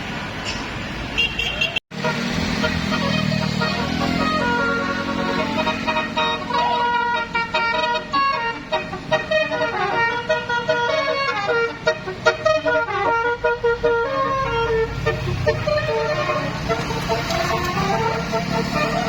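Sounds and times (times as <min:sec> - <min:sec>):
multi-tone bus horn tune: 0:01.2 - 0:19.0
bus engine rumble: 0:02.0 - 0:19.0.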